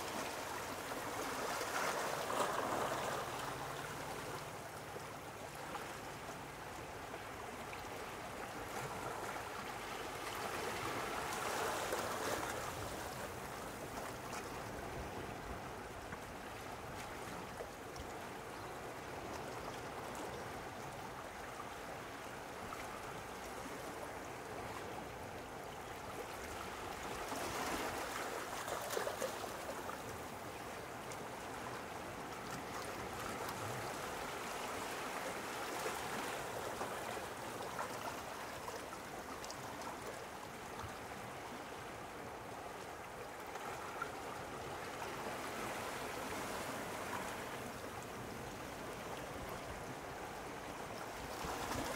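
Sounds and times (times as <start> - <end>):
small sea waves lapping: 0.0 - 51.9.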